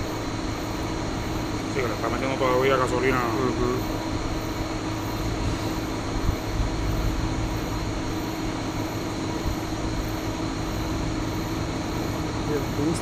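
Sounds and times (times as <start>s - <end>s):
low uneven mechanical rumble: 0.0s - 13.0s
steady hum: 0.0s - 13.0s.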